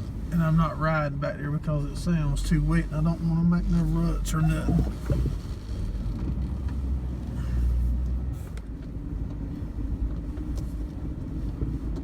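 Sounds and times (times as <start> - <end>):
farm vehicle rumbling: 0.0 - 12.0.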